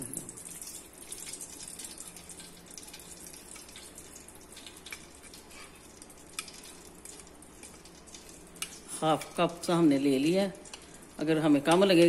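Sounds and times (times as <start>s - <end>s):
ghee sizzling in a pot: 0.0s - 12.0s.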